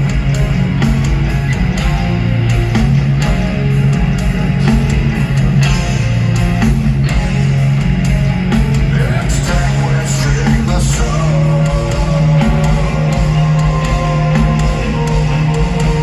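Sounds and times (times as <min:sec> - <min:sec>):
heavy metal band playing: 0:00.0 - 0:16.0.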